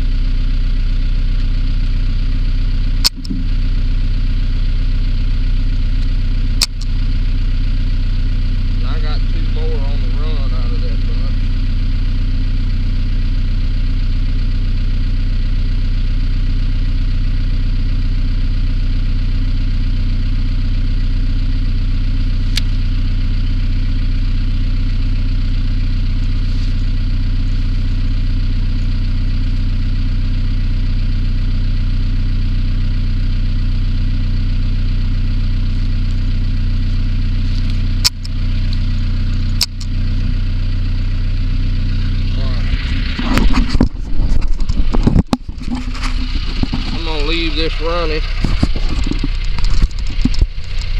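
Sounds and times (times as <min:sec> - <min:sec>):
vehicle engine idling: 0:00.0 - 0:50.9.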